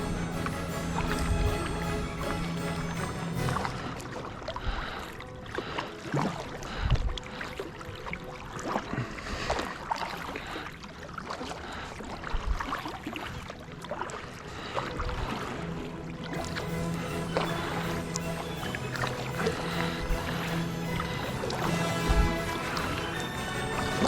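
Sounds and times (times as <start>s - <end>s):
water splashing around kayak: 3.4s - 24.0s.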